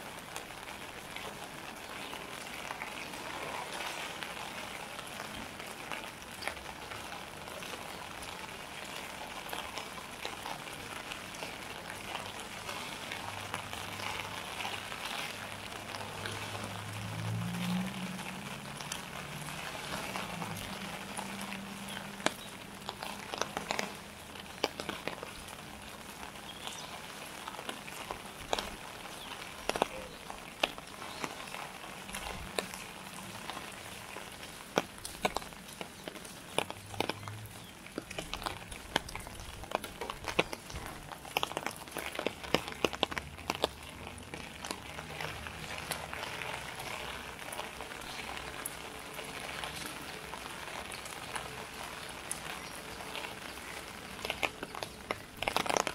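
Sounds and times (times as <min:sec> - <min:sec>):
drips on hard surfaces: 0:00.0 - 0:55.9
light rain patter: 0:00.0 - 0:55.9.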